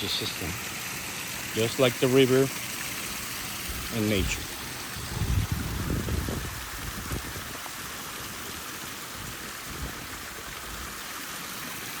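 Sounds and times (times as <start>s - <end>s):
water splashing and running: 0.0s - 12.0s.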